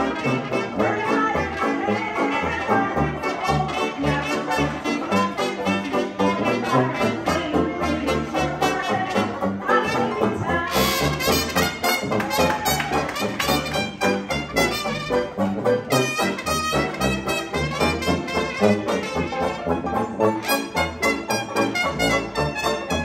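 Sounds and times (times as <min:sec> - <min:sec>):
trumpet lead: 0:00.0 - 0:23.0
walking bass line: 0:00.0 - 0:23.0.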